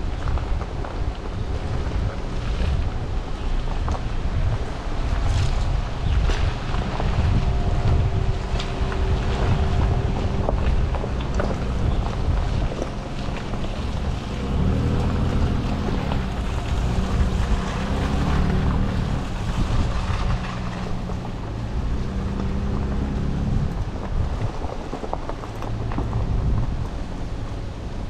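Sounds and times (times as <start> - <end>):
road noise rumble: 0.0 - 28.0
truck engine at low revs: 0.0 - 28.0.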